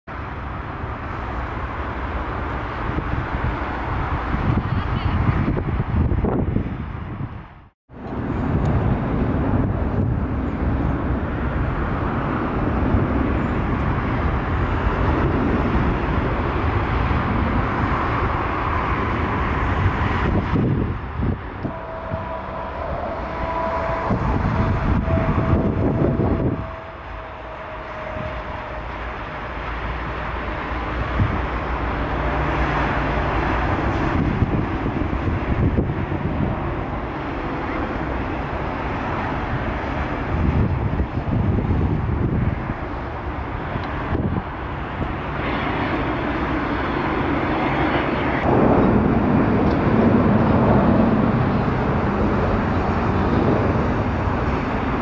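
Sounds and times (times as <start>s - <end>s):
jet engines rumbling with whine: 0.1s - 55.0s
wind on microphone: 0.1s - 55.0s.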